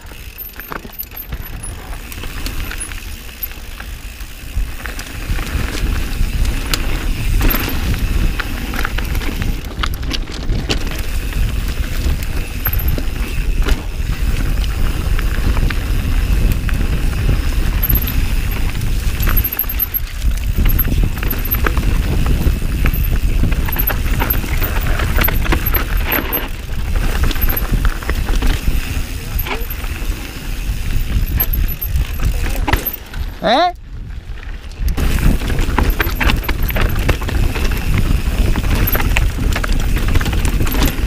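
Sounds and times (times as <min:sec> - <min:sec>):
bike knocking and rattling: 0:00.0 - 0:41.0
bike tyres over dirt and rocks: 0:00.0 - 0:41.0.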